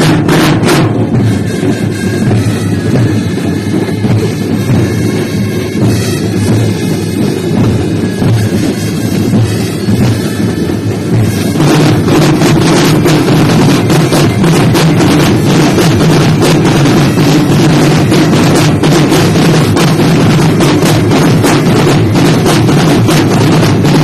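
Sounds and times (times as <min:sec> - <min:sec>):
drumline playing fast cadence: 0:00.0 - 0:24.0.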